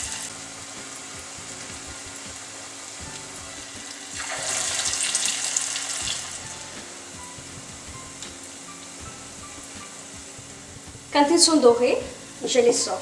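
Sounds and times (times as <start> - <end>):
batter sizzling in hot oil: 0.0 - 13.0
oil frying in a saucepan: 0.0 - 13.0.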